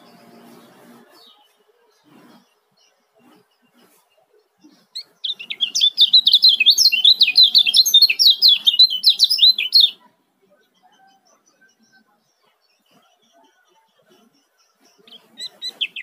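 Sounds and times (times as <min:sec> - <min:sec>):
bird chattering song: 0:00.0 - 0:10.1, 0:10.8 - 0:16.0.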